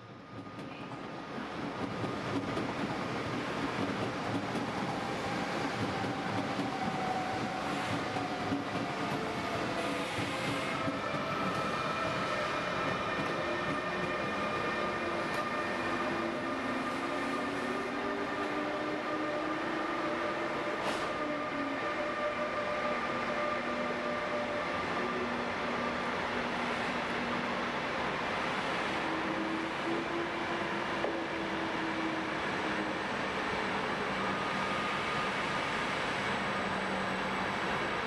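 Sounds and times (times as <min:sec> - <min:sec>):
electric locomotive whine: 0:01.4 - 0:38.0.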